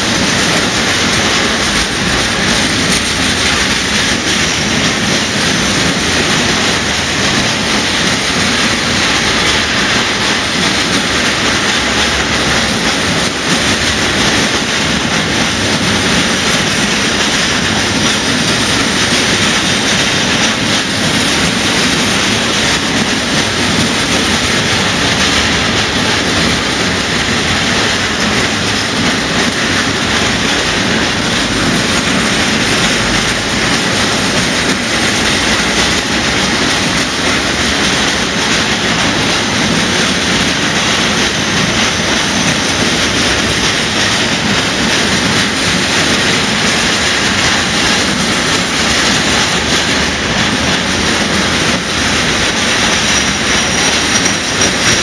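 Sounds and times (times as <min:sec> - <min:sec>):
freight train wheels on rail: 0:00.0 - 0:55.0.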